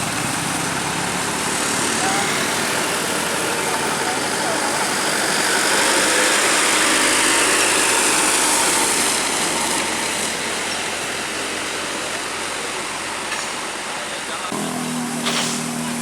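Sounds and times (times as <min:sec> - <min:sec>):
vehicle passing by: 0:00.0 - 0:13.2.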